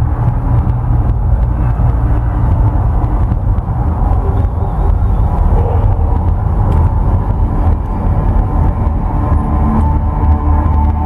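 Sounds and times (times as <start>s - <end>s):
deep steady rumble: 0.0s - 11.0s
faint musical tones: 0.0s - 11.0s.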